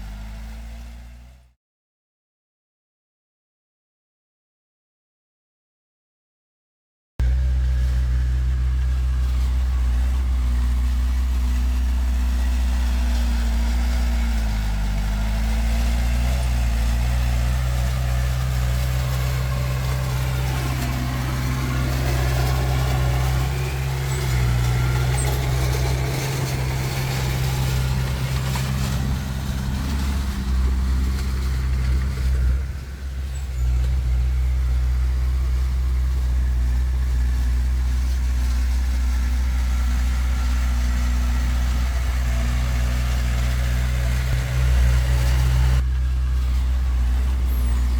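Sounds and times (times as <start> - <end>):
bulldozer diesel engine running: 0.0 - 1.4, 7.2 - 47.9.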